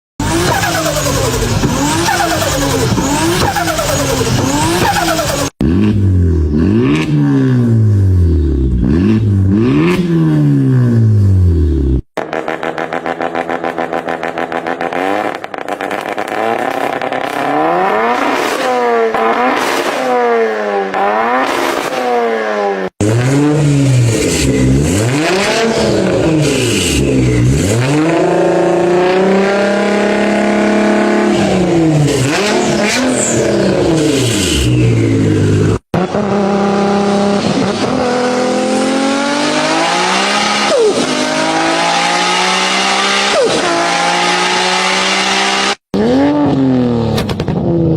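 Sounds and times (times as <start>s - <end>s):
car engine revving: 0.2s - 47.9s.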